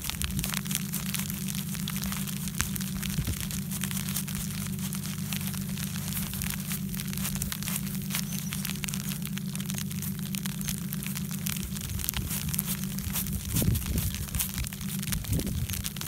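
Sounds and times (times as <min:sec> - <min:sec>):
fingers scratching icy snow: 0:00.0 - 0:16.0
steady low hum: 0:00.0 - 0:16.0.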